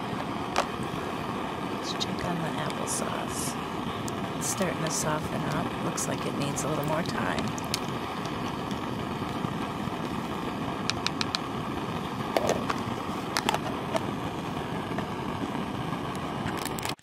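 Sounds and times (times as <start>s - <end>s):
steady rushing noise: 0.0s - 16.9s.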